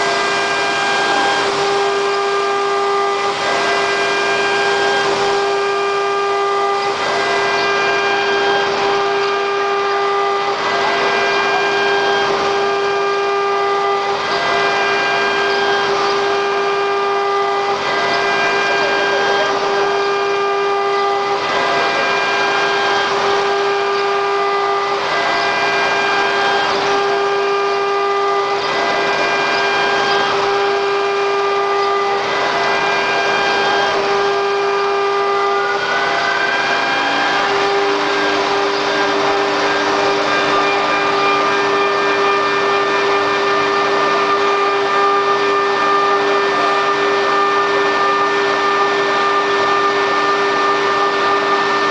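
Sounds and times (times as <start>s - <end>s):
hissing cutting noise: 0.0s - 51.8s
router spindle high whine: 0.0s - 51.9s.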